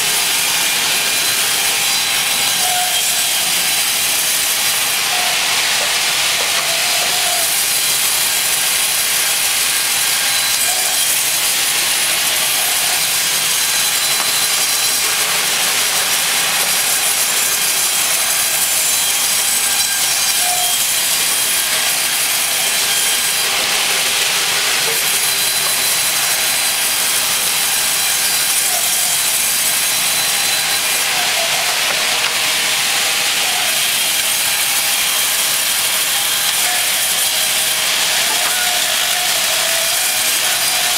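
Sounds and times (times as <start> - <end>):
band saw cutting wood: 0.0 - 40.9.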